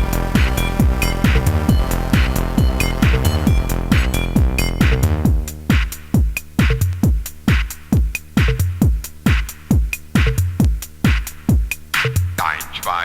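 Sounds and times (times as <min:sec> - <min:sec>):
drum machine kick: 0:00.0 - 0:13.0
hi-hat hits: 0:00.0 - 0:13.0.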